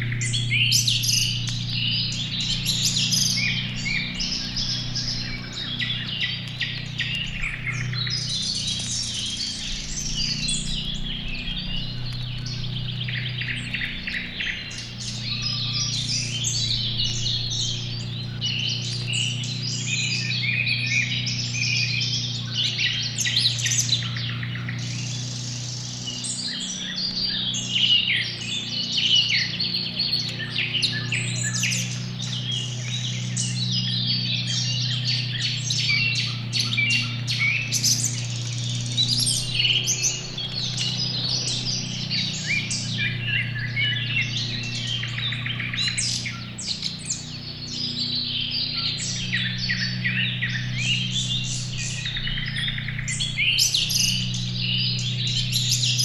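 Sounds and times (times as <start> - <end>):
songbirds chirping and trilling: 0.0 - 56.0
steady low hum: 0.0 - 56.0.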